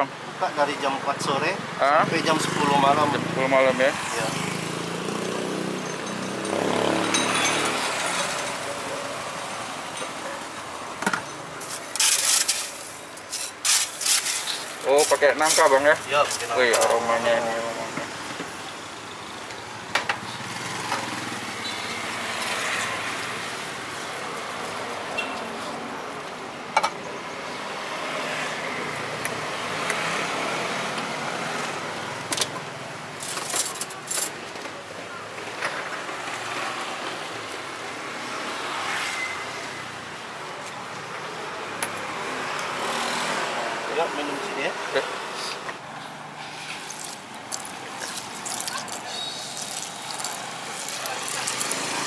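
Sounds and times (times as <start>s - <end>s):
street traffic: 0.0s - 52.0s.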